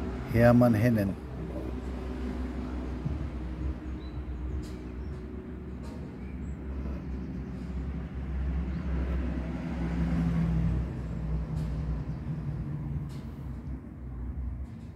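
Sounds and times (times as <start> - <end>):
low engine rumble: 0.0 - 14.9.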